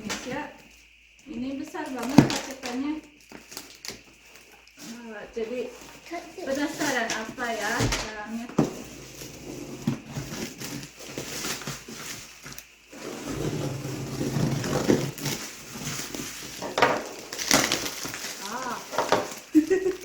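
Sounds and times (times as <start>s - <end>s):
cardboard package rustling: 2.0s - 20.0s.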